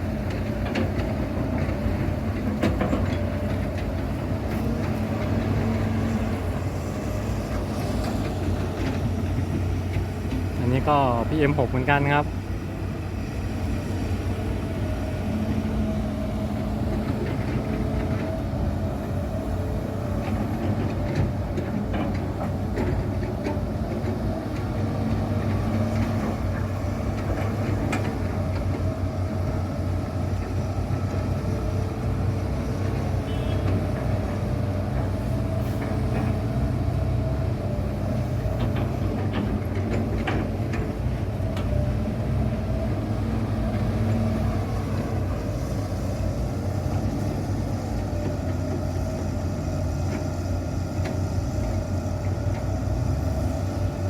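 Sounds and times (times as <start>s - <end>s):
diesel engine hum: 0.0s - 54.0s.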